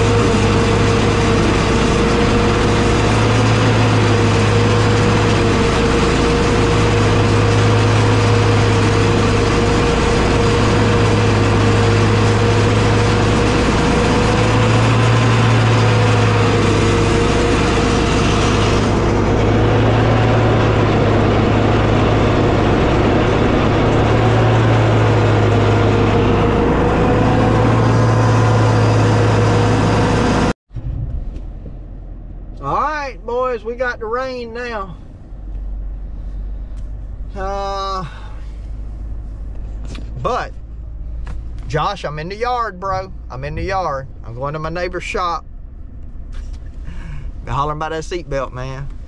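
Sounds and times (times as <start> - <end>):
engine running with whine: 0.0 - 49.0.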